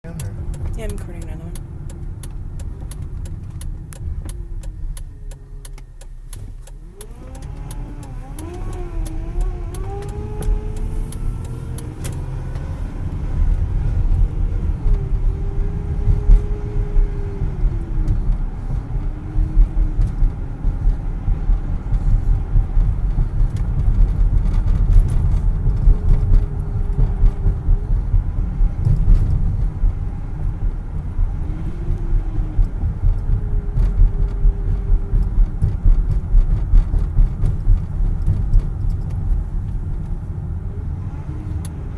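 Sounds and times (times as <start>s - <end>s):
car engine low rumble: 0.0s - 41.9s
power steering pump whine: 0.0s - 41.9s.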